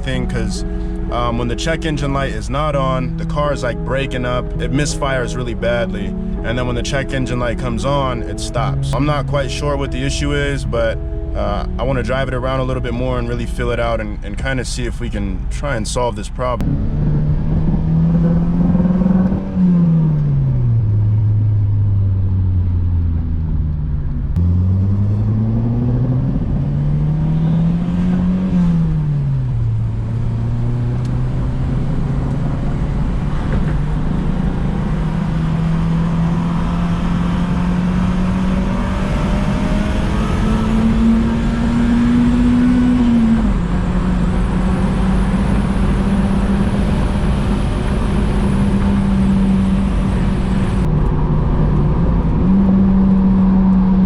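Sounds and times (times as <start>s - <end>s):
car engine revving through gears: 0.0s - 13.9s, 16.6s - 54.0s.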